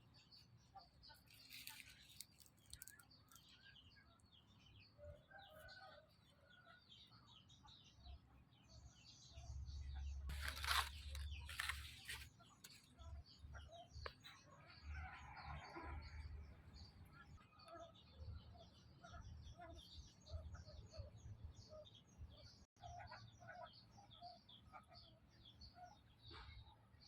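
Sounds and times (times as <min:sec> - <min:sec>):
faint bird chirping: 0:00.0 - 0:27.0.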